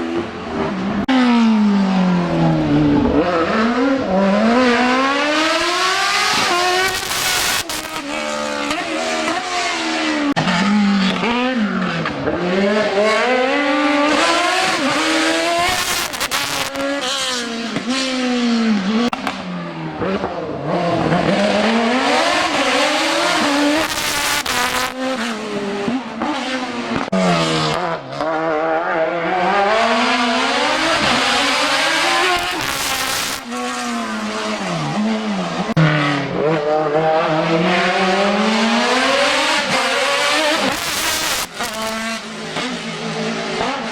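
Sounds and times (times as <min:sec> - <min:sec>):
racing car engine revving: 0:00.0 - 0:43.9.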